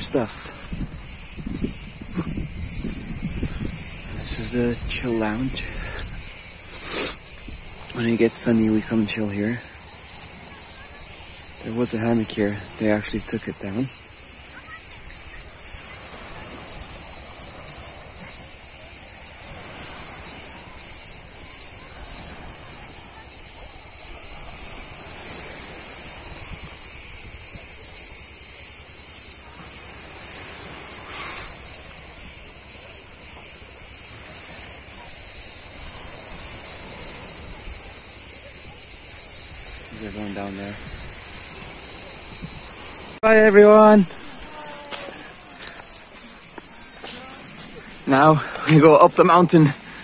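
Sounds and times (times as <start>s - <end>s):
cicadas buzzing: 0.0s - 50.0s.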